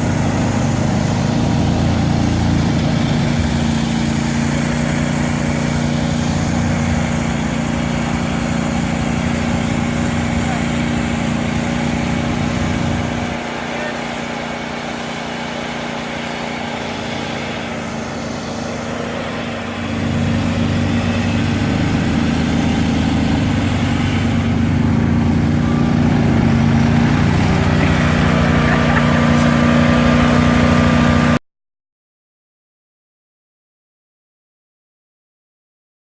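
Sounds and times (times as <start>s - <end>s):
tractor diesel engine running: 0.0s - 31.4s.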